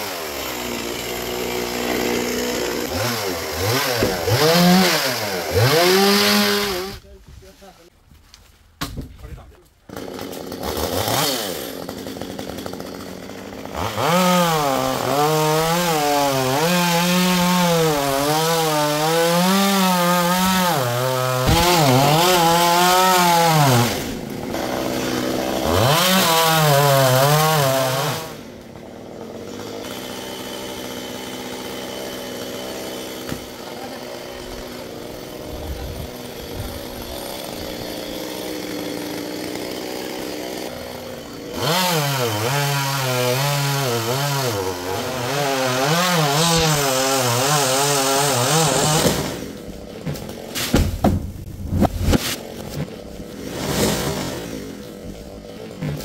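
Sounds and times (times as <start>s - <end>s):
chainsaw cutting wood: 0.0s - 7.0s, 9.8s - 56.0s.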